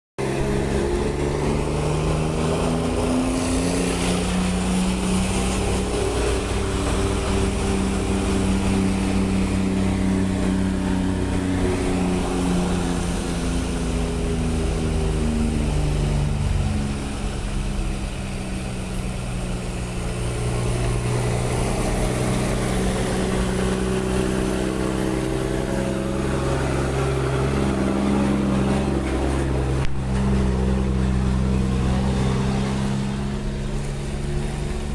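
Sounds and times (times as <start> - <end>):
truck diesel engine running: 0.2 - 34.9.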